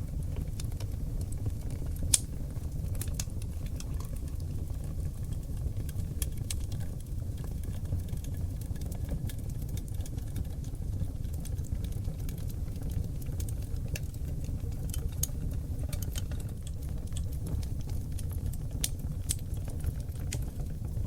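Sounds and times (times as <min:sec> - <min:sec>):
low rumble of flames: 0:00.0 - 0:21.0
wood fire crackles and pops: 0:00.0 - 0:21.0.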